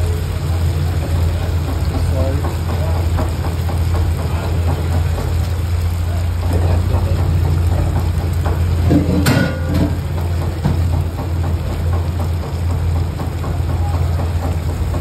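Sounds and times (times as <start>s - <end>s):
cooktop humming: 0.0s - 15.0s.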